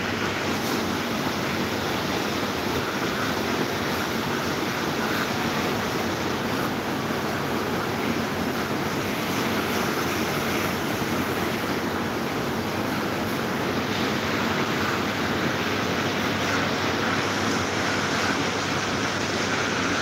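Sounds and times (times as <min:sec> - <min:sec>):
electric fans running: 0:00.0 - 0:20.0.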